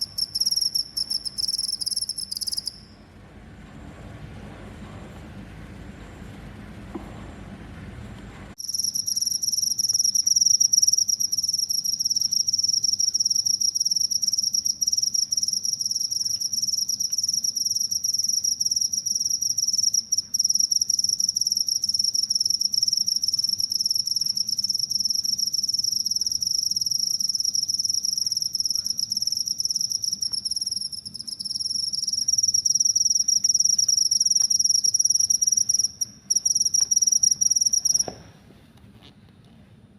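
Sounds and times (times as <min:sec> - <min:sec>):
cricket trilling: 0:00.0 - 0:02.9, 0:08.6 - 0:38.1.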